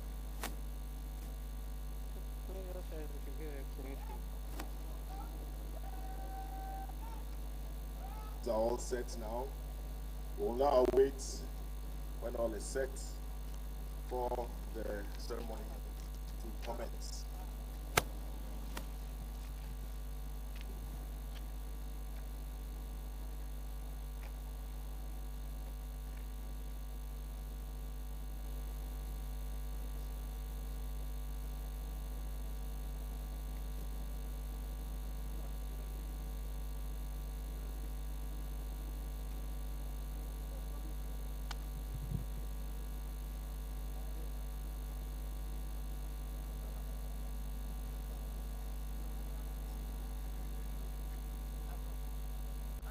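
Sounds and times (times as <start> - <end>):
low electrical hum with tones: 0.0 - 52.9.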